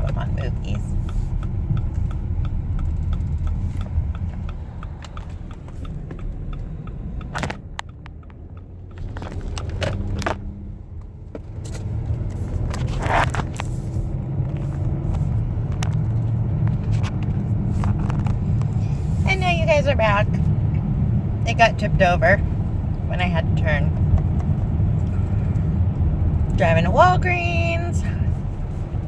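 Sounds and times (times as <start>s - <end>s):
car cabin road and engine rumble: 0.0s - 29.0s
turn signal ticking: 0.0s - 29.0s.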